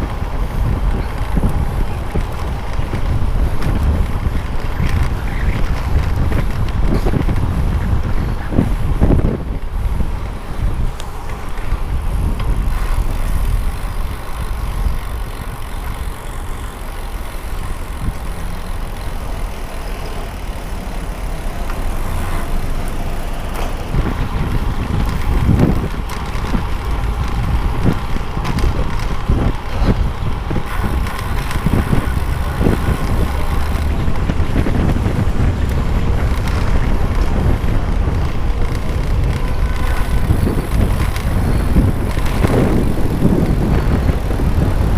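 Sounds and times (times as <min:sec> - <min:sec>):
road noise and traffic: 0:00.0 - 0:44.9
wind rumbling on microphone: 0:00.0 - 0:44.9.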